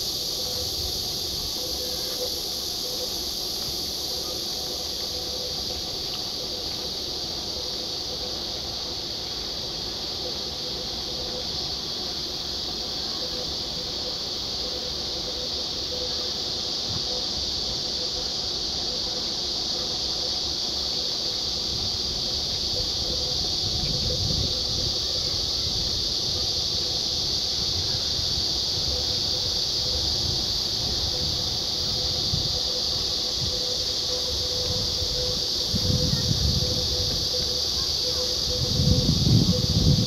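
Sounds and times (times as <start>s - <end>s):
cicada chorus drone: 0.0s - 40.0s.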